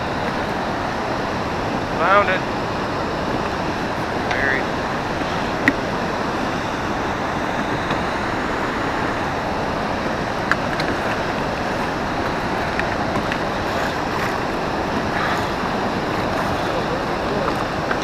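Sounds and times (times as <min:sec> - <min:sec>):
wind and water rushing: 0:00.0 - 0:18.0.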